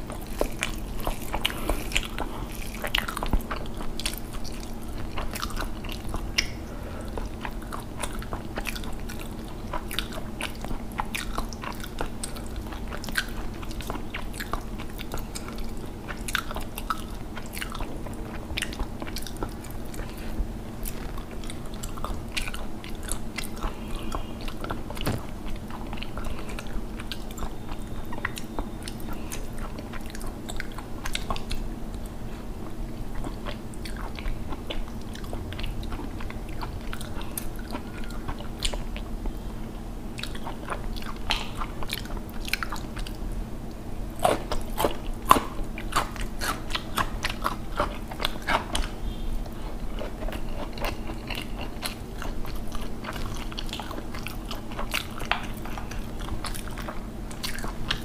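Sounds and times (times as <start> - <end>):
person chewing and smacking: 0.0 - 58.0
steady low hum: 0.0 - 58.0.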